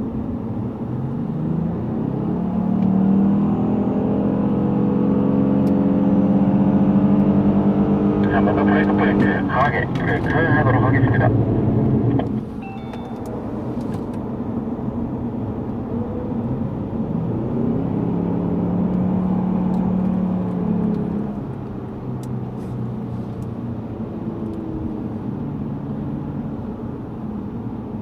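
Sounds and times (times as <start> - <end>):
car engine accelerating: 0.8 - 14.4, 15.3 - 26.4.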